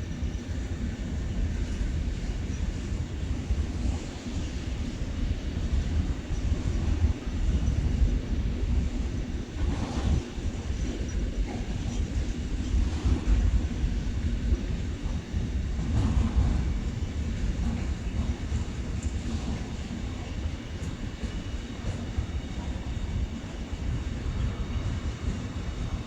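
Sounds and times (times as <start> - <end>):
train rolling past: 0.0 - 26.0
wind rumble on microphone: 0.0 - 26.0.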